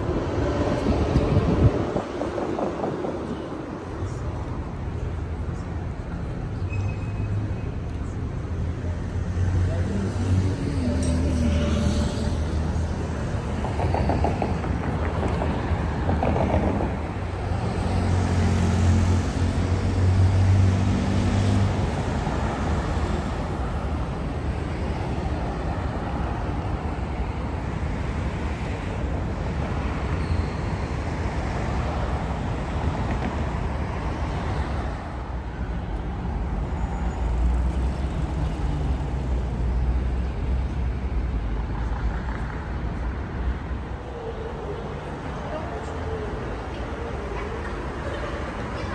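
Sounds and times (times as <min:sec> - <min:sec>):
road traffic hum: 0:00.0 - 0:48.9.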